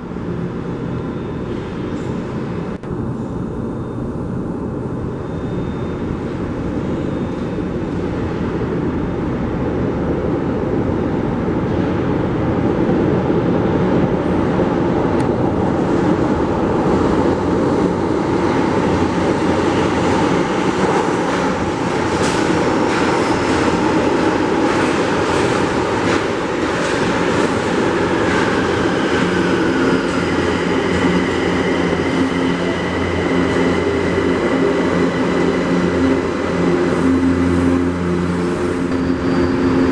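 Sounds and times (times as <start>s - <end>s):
high whine: 0.0s - 11.6s, 14.8s - 39.9s
metro train rumbling: 0.0s - 39.9s.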